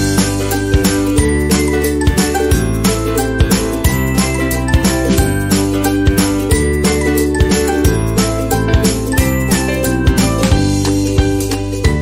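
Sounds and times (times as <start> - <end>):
light melody over steady beat: 0.0 - 12.0.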